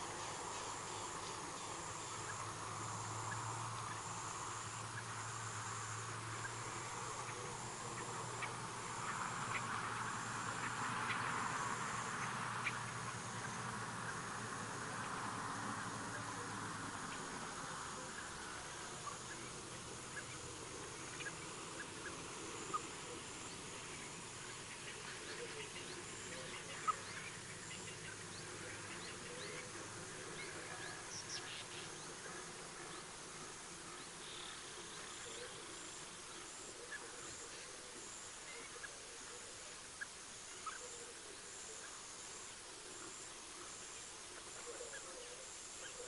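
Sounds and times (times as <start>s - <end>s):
high insect trill: 0.0s - 46.0s
insect chorus: 0.0s - 46.0s.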